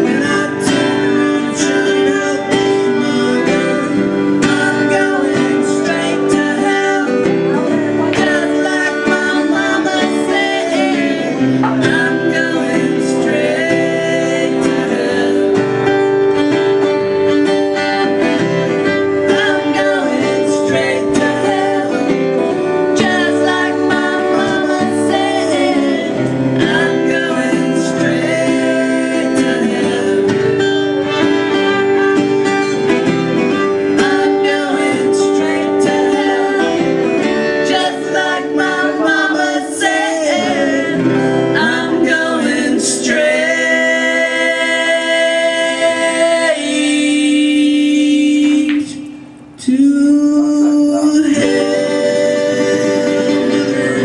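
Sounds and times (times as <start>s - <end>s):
man and woman singing: 0.0s - 16.4s, 18.8s - 31.1s, 33.5s - 54.0s
strummed acoustic guitar: 0.0s - 49.6s, 50.6s - 54.0s.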